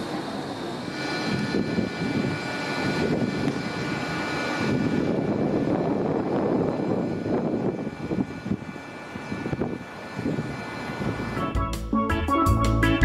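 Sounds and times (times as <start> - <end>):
rumble of wheels: 0.0 - 11.6
street noise: 0.0 - 13.0
tram electric drive whine: 0.0 - 13.0.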